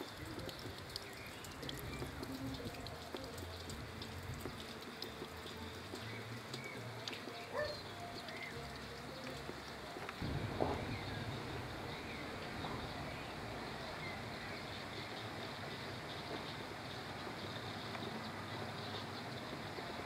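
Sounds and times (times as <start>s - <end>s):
small splashes and drips: 0.0s - 20.0s
water trickling: 0.0s - 20.0s.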